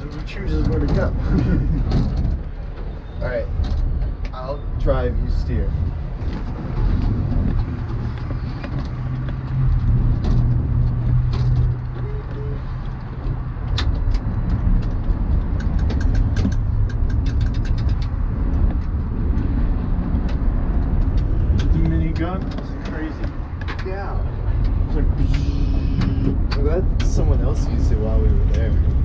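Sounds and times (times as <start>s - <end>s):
large vehicle engine droning: 0.0s - 29.0s.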